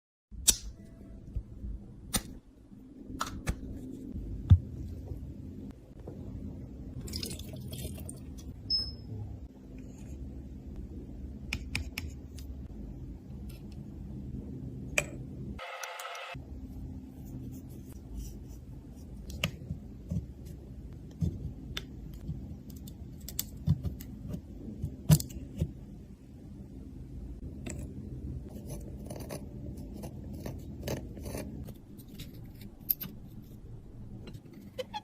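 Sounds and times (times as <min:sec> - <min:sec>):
steady low hum: 0:00.7 - 0:15.6, 0:16.3 - 0:34.7.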